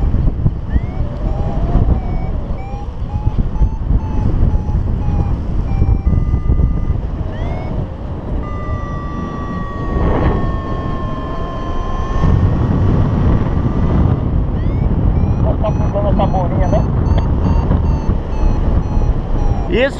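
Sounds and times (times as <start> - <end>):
variometer electronic beeps: 0.0 - 19.9
wind rushing over microphone: 0.0 - 19.9.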